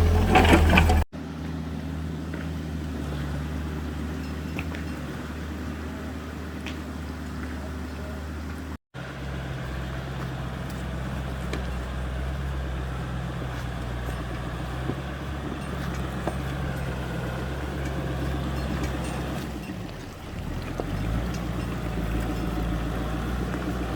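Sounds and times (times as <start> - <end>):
excavator engine running: 0.0 - 23.9.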